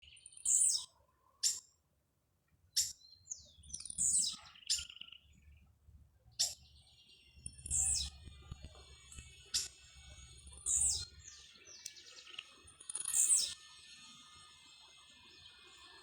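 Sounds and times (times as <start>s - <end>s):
birds calling and chirping: 0.3s - 1.7s, 2.8s - 5.7s, 6.3s - 16.0s.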